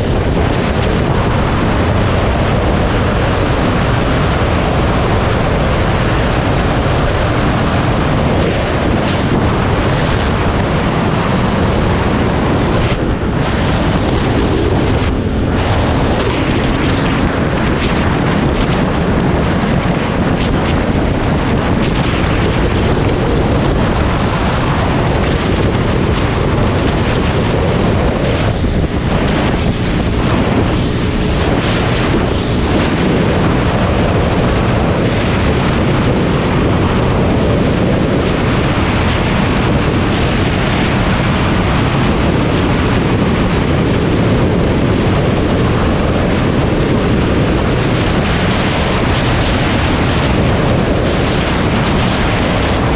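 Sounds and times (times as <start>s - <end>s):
dirt bike engine running: 0.0s - 52.9s
wind buffeting microphone: 0.0s - 52.9s.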